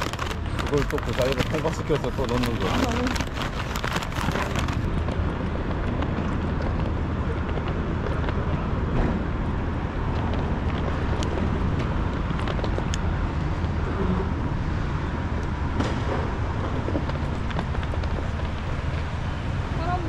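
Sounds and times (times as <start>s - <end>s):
sharp clicks and rustles: 0.0s - 8.6s, 10.0s - 13.8s, 15.4s - 19.2s
low rumble of traffic: 0.0s - 20.0s.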